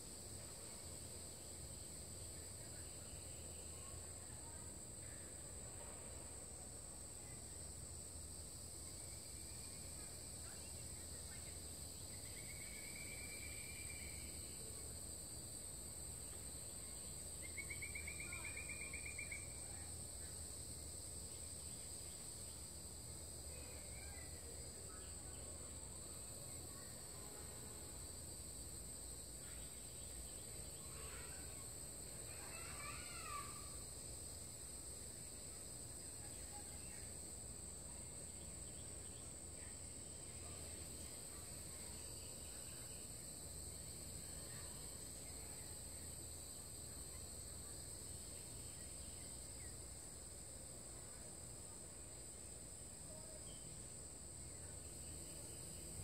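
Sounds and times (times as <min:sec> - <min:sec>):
high-pitched insect chorus: 0:00.0 - 0:56.0
insect trills: 0:00.0 - 0:56.0.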